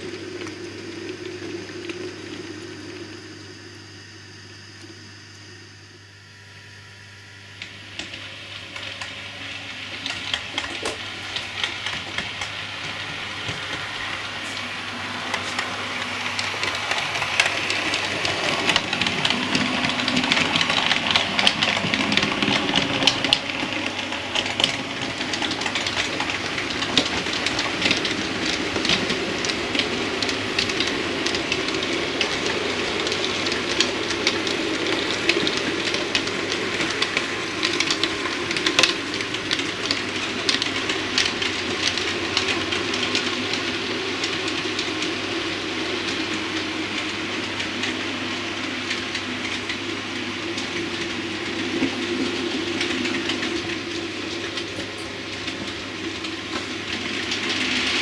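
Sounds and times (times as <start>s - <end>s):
model train wheels clicking on track: 7.6s - 58.0s.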